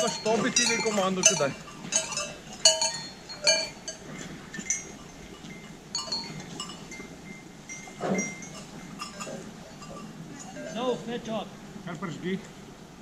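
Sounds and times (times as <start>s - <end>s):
large bells clanking and jangling: 0.0s - 11.3s.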